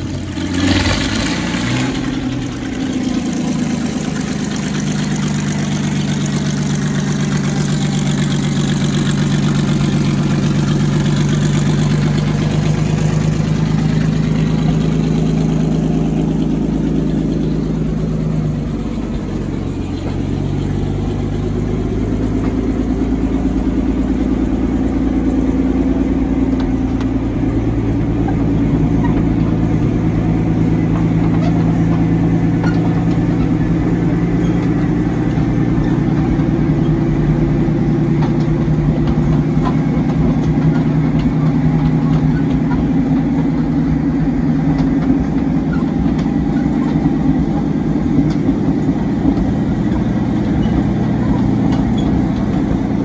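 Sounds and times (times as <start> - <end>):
tank engine idling: 0.0 - 53.0.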